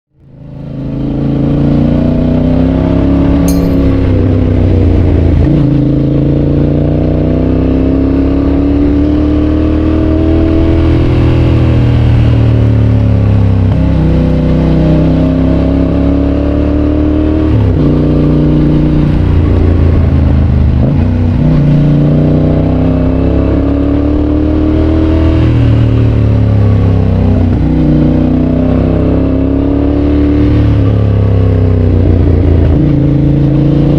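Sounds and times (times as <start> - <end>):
motorcycle engine accelerating: 0.3 - 33.9.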